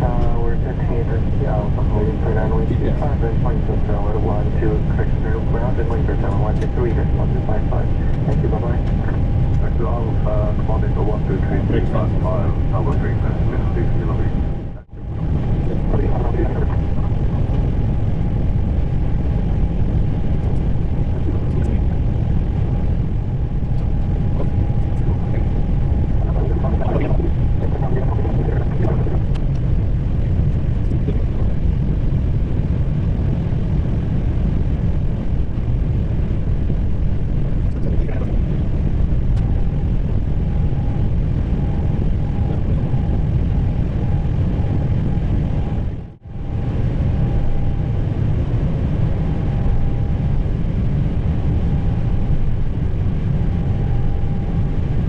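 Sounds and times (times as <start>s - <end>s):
aircraft engines idling rumble: 0.0s - 55.0s
faint steady hum: 0.0s - 55.0s.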